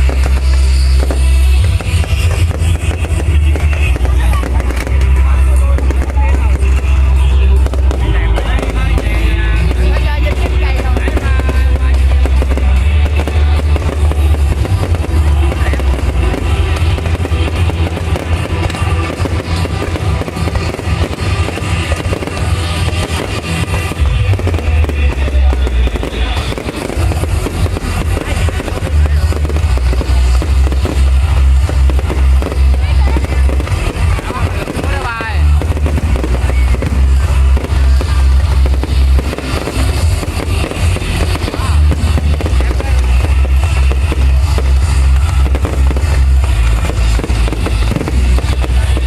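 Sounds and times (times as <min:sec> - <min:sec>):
fireworks booming and crackling: 0:00.0 - 0:49.0
music playing: 0:00.0 - 0:49.0.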